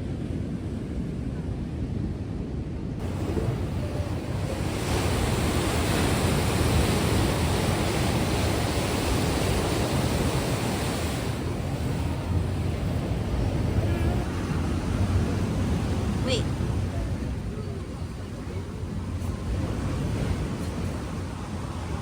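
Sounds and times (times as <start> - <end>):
wind rumbling on microphone: 0.0 - 22.0
ocean surf breaking: 3.0 - 22.0.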